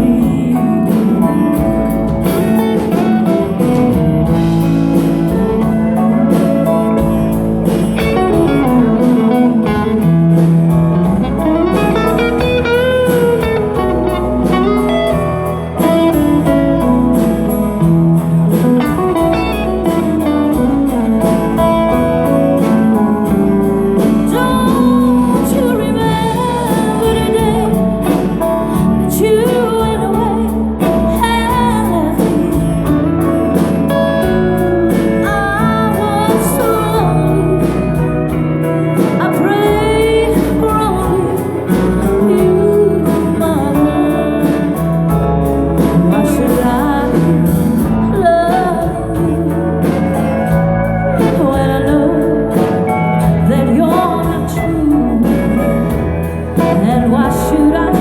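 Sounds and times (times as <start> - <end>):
live band playing country-rock: 0.0 - 58.0.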